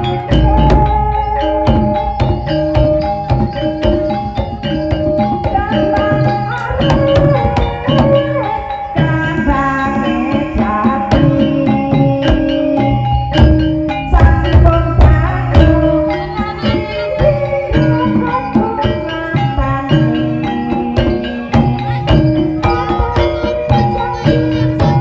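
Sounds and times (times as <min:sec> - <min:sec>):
drum strikes: 0:00.0 - 0:25.0
gliding melodic line: 0:00.0 - 0:25.0
metallophones repeating melody: 0:00.0 - 0:25.0.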